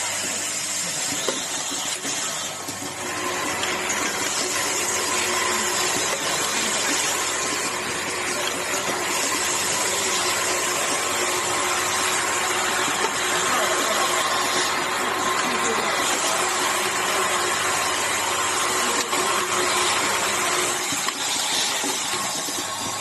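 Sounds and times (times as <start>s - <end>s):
machine humming and hissing: 0.0s - 23.0s.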